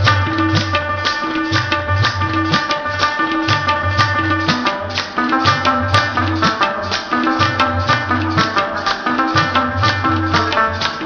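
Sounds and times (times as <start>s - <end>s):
instrumental music with drums: 0.0s - 11.0s.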